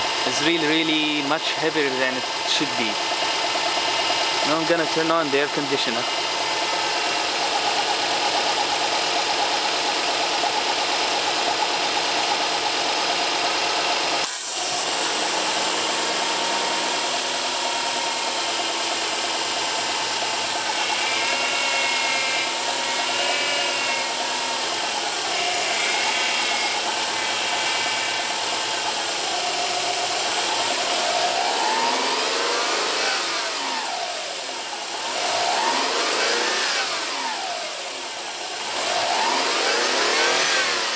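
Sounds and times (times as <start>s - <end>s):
car engine running: 0.0s - 40.9s
power steering whine: 0.0s - 40.9s.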